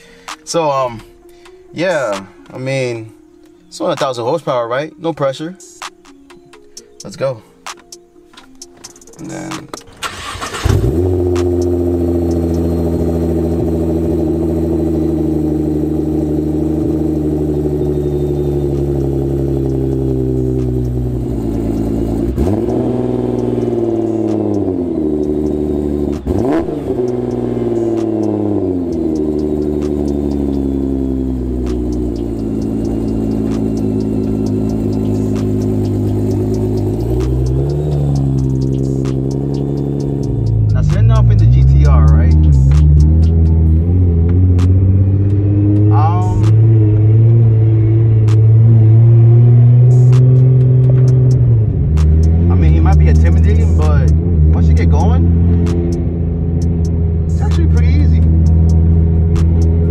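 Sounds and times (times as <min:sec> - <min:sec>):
car engine idling and revving: 0:06.6 - 0:59.9.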